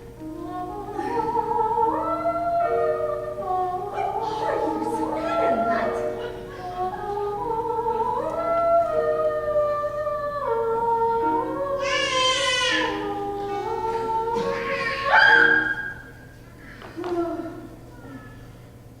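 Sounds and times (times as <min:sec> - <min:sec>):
woman singing a lullaby: 0:00.0 - 0:15.8.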